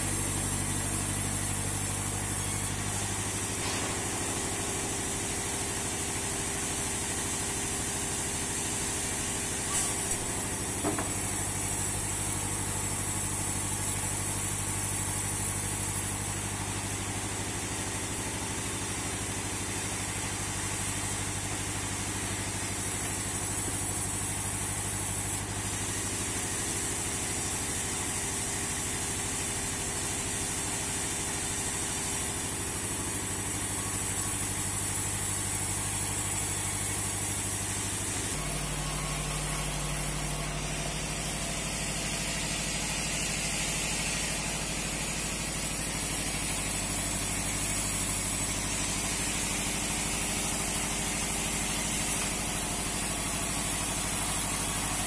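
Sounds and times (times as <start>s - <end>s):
bandsaw mill humming: 0.0s - 26.5s, 31.2s - 55.0s.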